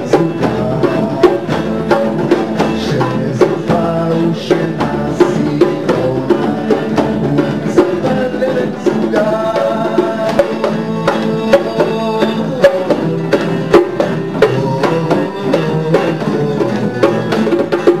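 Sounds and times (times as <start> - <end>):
drum strikes: 0.0 - 18.0
strummed guitar: 0.0 - 18.0.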